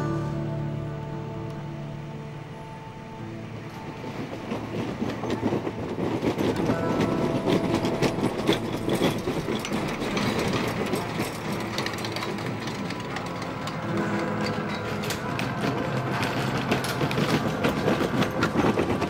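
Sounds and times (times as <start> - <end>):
roller coaster wheels clattering: 0.0 - 19.0.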